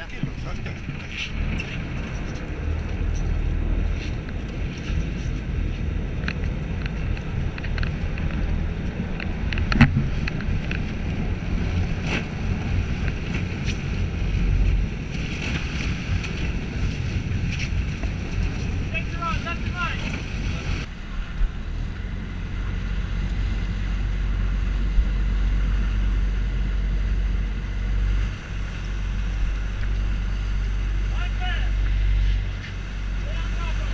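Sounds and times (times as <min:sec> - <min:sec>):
boat engine low rumble: 0:00.0 - 0:33.9
water splashing along hull: 0:00.0 - 0:33.9
wind over microphone: 0:00.0 - 0:33.9.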